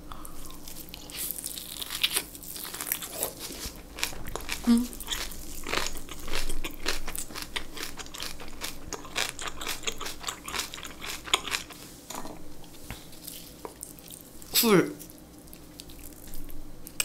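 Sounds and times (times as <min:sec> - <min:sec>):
wet chewing and crunching: 0:00.1 - 0:11.8, 0:12.6 - 0:17.0.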